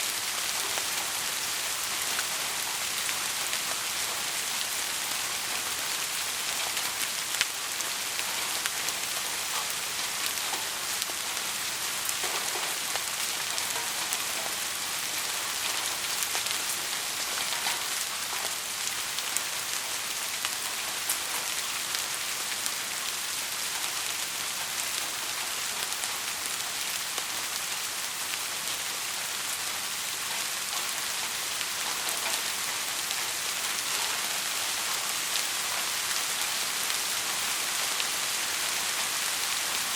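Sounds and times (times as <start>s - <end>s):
heavy rain falling: 0.0s - 39.9s
raindrops ticking on surface: 0.0s - 39.9s.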